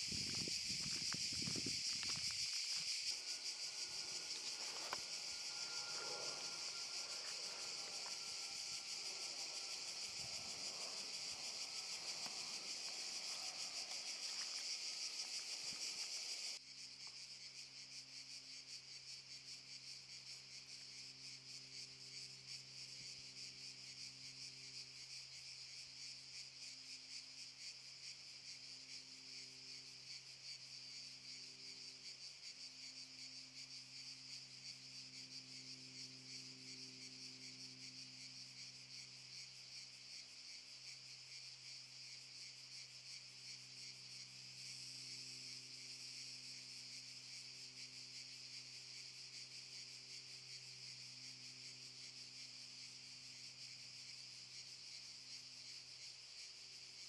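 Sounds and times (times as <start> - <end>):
cicadas singing: 0.0 - 57.0.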